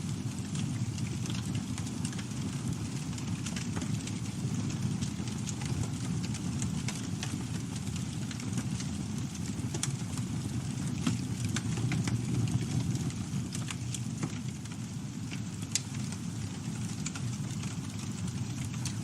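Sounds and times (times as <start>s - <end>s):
campfire flames rumbling: 0.0s - 19.0s
wood crackling and popping: 0.0s - 19.0s.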